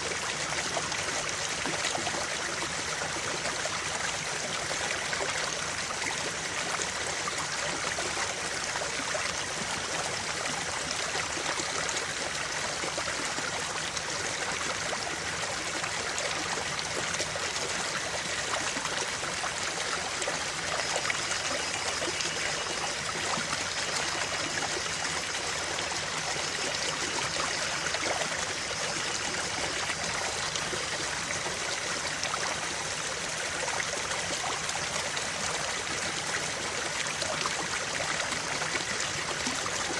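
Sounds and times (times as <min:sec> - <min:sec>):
creek water trickling over rocks: 0:00.0 - 0:39.9.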